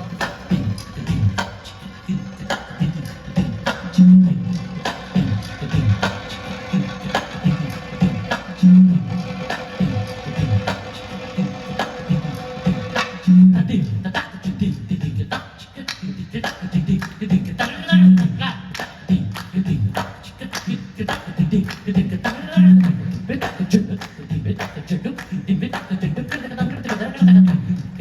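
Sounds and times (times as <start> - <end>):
rhythmic hand drum percussion: 0.0 - 28.0.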